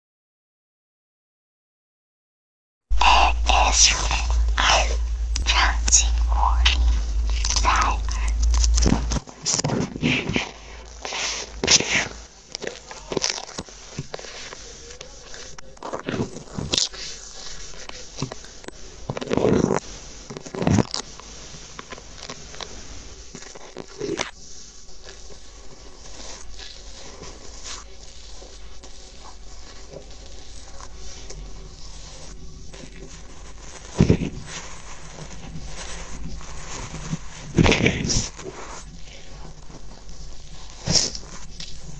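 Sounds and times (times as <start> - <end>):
paper and tape crinkling: 3.0 - 41.9.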